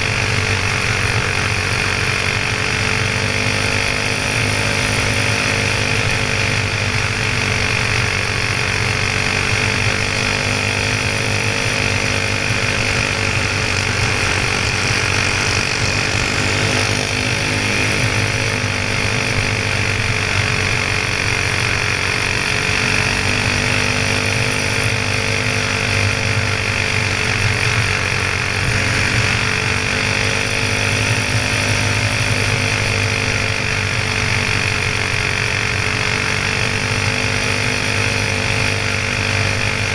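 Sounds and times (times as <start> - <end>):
go-kart engine running flat out: 0.0 - 39.9.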